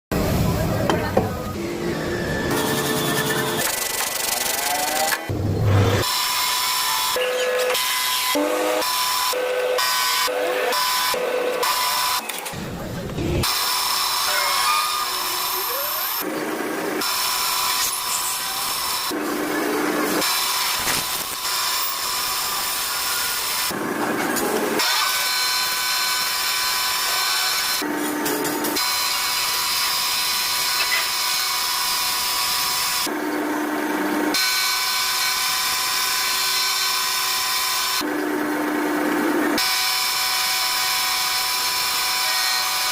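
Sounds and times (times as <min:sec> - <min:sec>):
power saw whining: 0:01.5 - 0:12.6, 0:13.4 - 0:33.5, 0:39.5 - 0:42.9.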